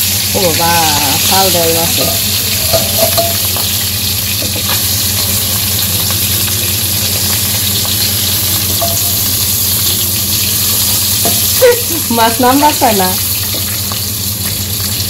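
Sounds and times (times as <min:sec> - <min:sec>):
fish frying in oil sizzle: 0:00.0 - 0:15.0.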